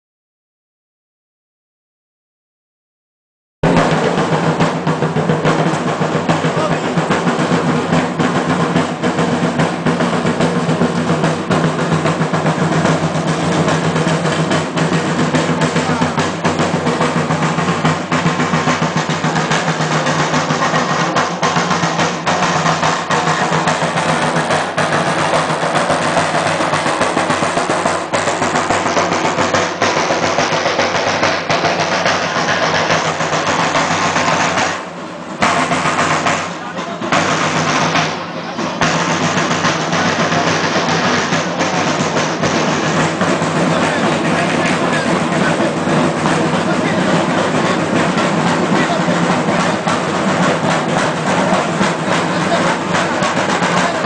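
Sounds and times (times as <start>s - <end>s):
snare drums fast roll: 3.6s - 54.0s.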